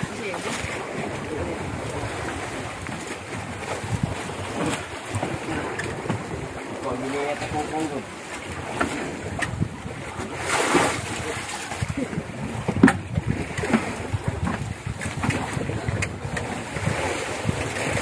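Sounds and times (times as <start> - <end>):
sea washing around boat: 0.0 - 18.0
wind on microphone: 0.0 - 18.0.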